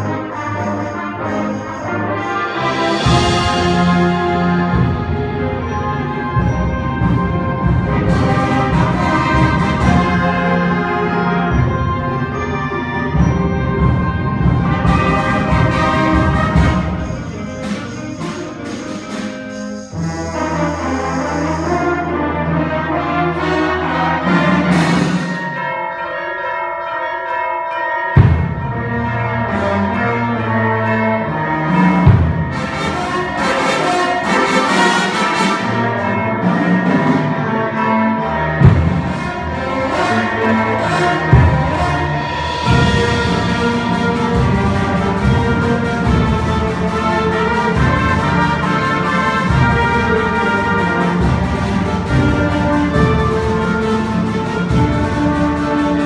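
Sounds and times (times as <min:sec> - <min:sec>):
loud percussion hits: 0:00.0 - 0:22.2, 0:23.4 - 0:25.8, 0:28.2 - 0:29.1, 0:31.7 - 0:37.8, 0:38.4 - 0:56.0
concert band playing: 0:00.0 - 0:26.5, 0:28.2 - 0:56.0.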